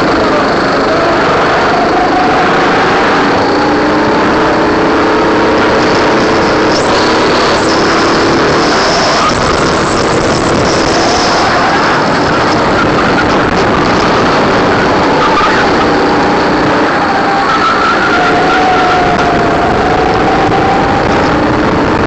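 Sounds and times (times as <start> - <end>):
go-kart engine accelerating: 0.0 - 22.0
wind noise: 0.0 - 22.0.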